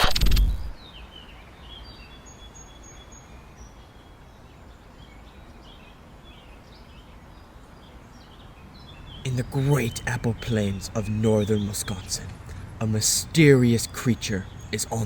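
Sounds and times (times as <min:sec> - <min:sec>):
birds chirping: 0:00.8 - 0:15.0.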